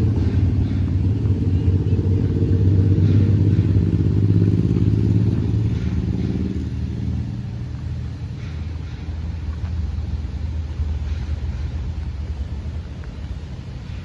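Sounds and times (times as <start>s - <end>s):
train cars rumbling past: 0.0s - 14.0s.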